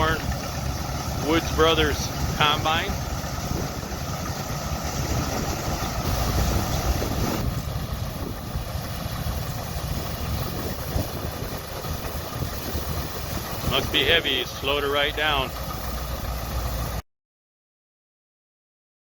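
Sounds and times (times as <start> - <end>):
tractor and combine engines: 0.0 - 17.0.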